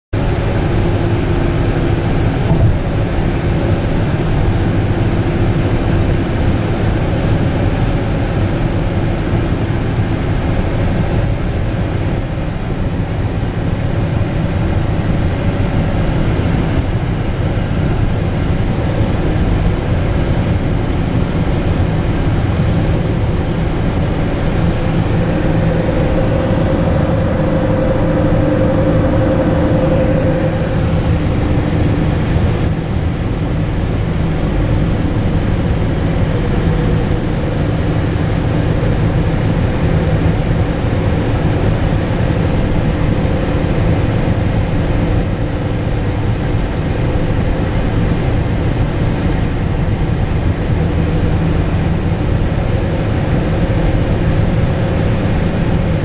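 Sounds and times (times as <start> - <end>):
road and engine drone in car: 0.0 - 56.0
faint humming tones: 0.2 - 56.0.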